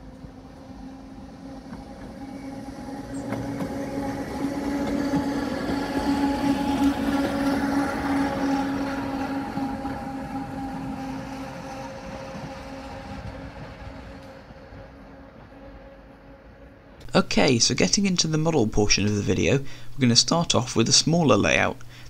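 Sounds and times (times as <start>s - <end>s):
tram wheels on track: 0.0s - 19.4s
electric tram hum: 0.0s - 22.0s.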